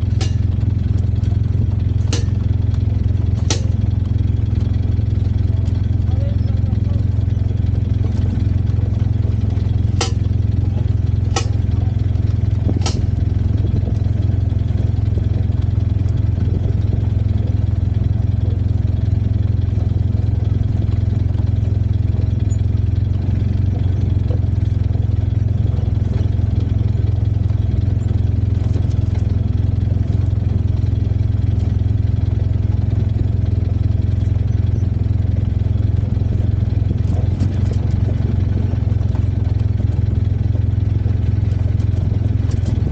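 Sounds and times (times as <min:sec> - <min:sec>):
engine running low drone: 0:00.0 - 0:42.9.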